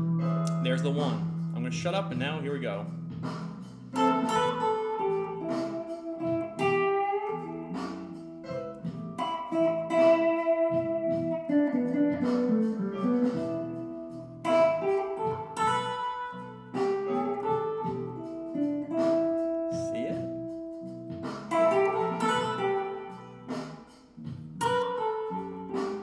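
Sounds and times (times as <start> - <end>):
blues backing track: 0.0 - 26.0
electric guitar blues lead: 2.8 - 26.0.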